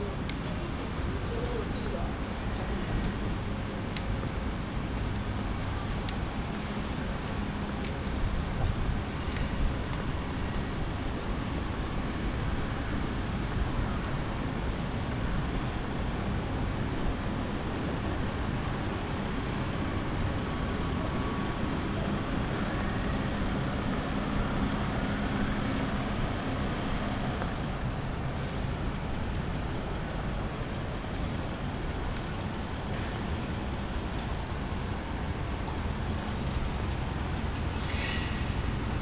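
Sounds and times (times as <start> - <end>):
rumble of passing traffic: 0.0 - 39.0
low engine hum: 3.0 - 34.2, 35.0 - 39.0.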